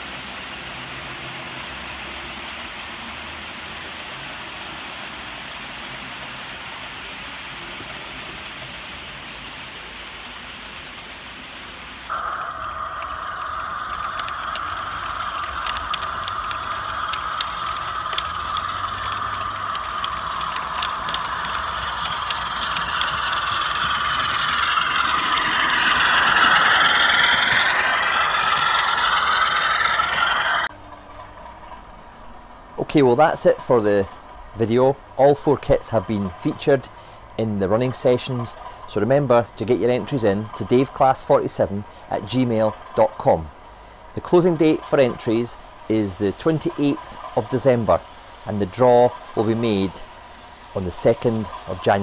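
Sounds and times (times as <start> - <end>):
model train running: 0.0 - 52.0
steady hiss: 0.0 - 52.0
wheels clicking over rail joints: 0.0 - 52.0.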